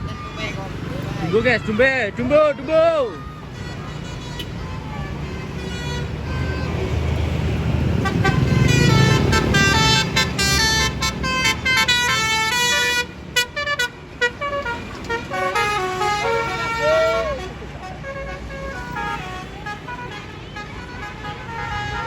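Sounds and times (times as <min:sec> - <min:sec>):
bus engine rumble: 0:00.0 - 0:22.0
multi-tone bus horn tune: 0:00.0 - 0:22.0.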